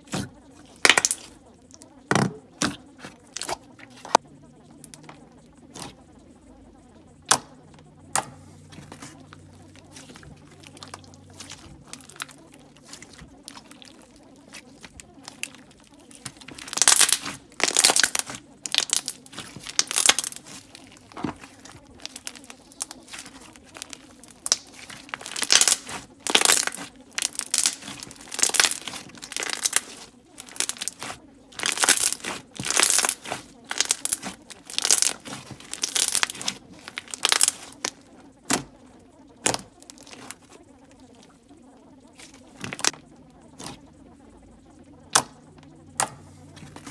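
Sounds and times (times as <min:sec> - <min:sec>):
slime crackling and popping: 0:00.0 - 0:06.0, 0:07.2 - 0:41.2, 0:42.1 - 0:44.0, 0:45.0 - 0:46.9.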